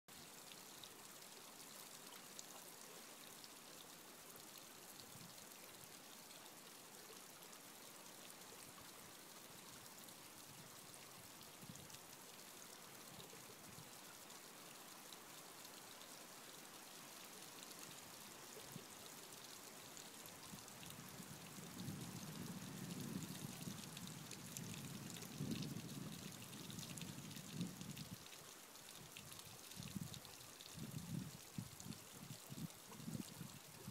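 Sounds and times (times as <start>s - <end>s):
stream babbling over rocks: 0.1s - 33.9s.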